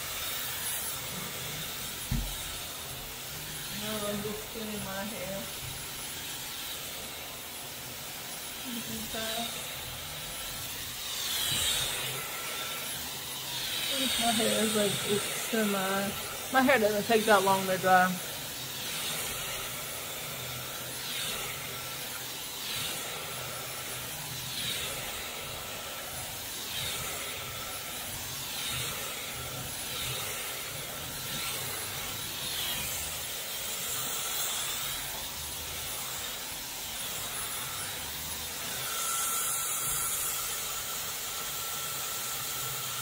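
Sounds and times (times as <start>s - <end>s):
hair dryer blowing: 0.0s - 43.0s.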